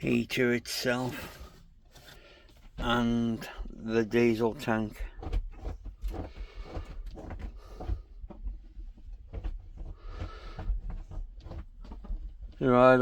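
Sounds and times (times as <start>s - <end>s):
rustling and scraping packaging: 0.0s - 13.0s
knocks and bumps: 0.9s - 13.0s.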